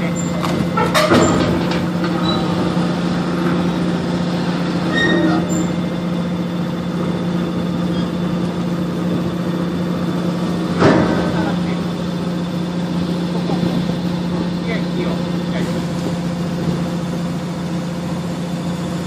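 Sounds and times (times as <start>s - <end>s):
constant low hum: 0.0s - 19.0s
crane mechanical drone: 0.0s - 19.0s.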